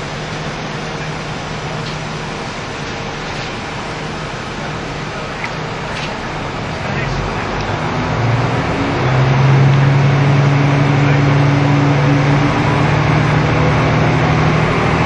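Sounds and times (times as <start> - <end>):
diesel railcar engine drone: 0.0 - 15.0
rail noise: 0.0 - 15.0.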